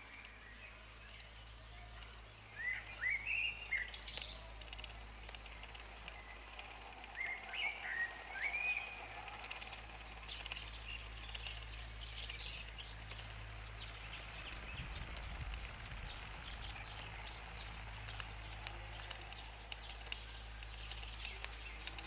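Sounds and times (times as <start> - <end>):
birds chirping: 0.0 - 22.0
low hum: 0.0 - 22.0.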